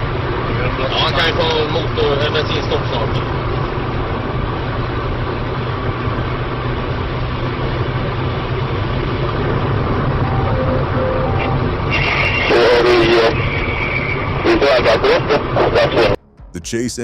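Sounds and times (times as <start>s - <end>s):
low vehicle rumble with hiss: 0.0s - 16.2s.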